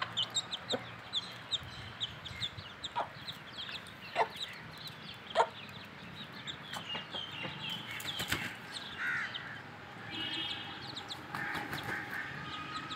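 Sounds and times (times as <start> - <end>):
beaks pecking ground: 0.0 - 12.9.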